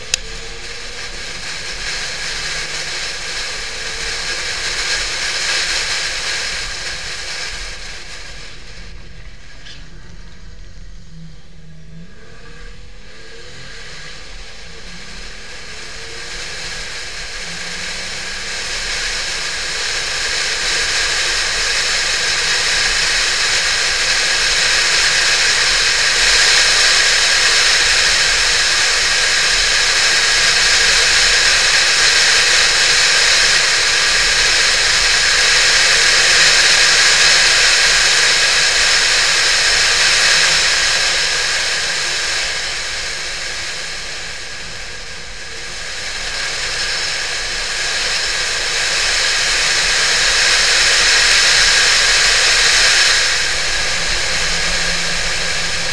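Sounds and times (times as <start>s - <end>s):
air and road rush: 0.0s - 55.9s.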